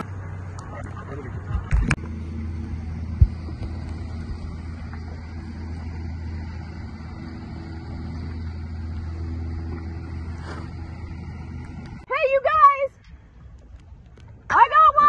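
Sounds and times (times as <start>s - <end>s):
watercraft engine idling: 0.0s - 15.0s.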